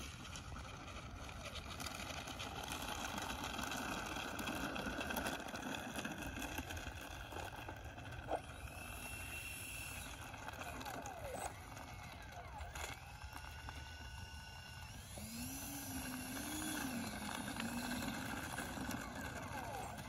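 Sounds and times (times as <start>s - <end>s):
electric ducted fans whirring: 0.0s - 20.0s.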